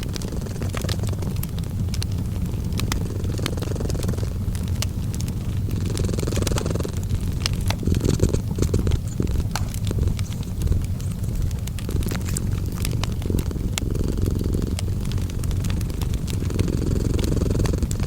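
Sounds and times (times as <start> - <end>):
cat purring: 0.0 - 18.0
fireplace crackling: 0.0 - 18.0.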